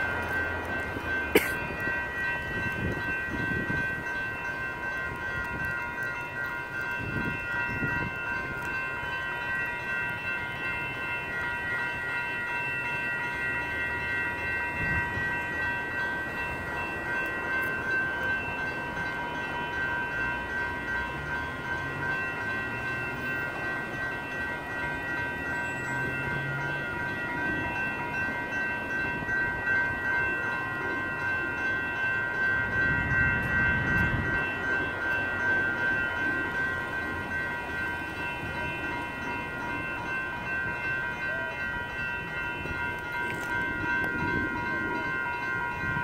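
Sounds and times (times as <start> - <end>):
railroad crossing bells ringing: 0.0 - 46.0.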